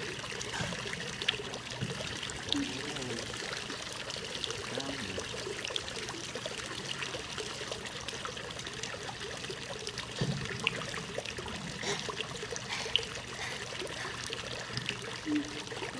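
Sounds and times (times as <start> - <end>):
waterfall pouring into pond: 0.0 - 15.9.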